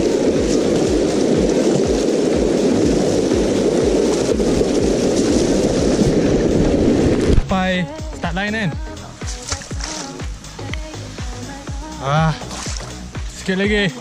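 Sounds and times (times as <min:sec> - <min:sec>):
low thumps: 0:00.0 - 0:13.4
river rushing over rocks: 0:00.0 - 0:14.0.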